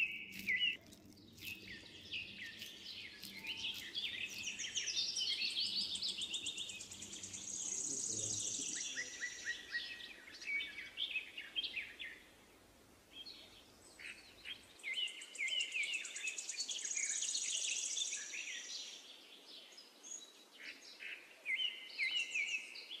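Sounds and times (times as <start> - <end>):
birds chirping and twittering: 0.0 - 23.0.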